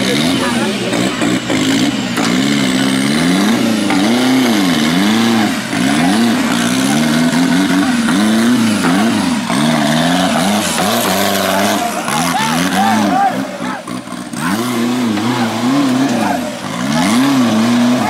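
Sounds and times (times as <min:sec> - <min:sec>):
buggy engine revving hard: 0:00.0 - 0:18.0.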